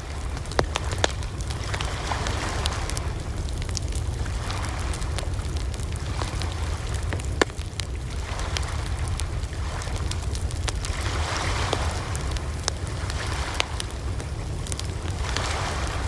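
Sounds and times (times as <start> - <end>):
campfire crackling and popping: 0.0 - 16.0
steady low rumble: 0.0 - 16.0.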